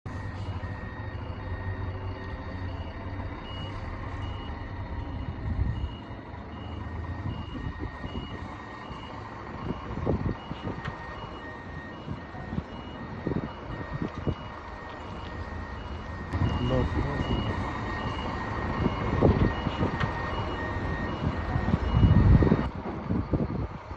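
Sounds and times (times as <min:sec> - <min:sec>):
bus engine running: 0:00.0 - 0:23.9
reversing alarm beeps: 0:00.1 - 0:23.6.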